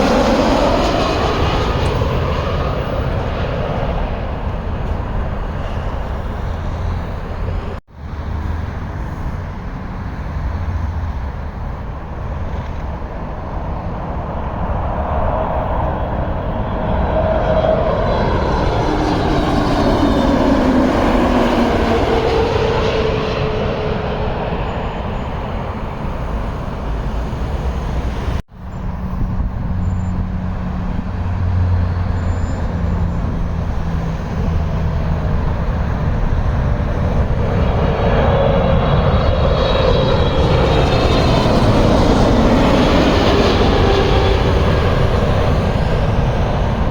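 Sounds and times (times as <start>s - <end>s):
jet airliner engine whine: 0.0s - 46.9s.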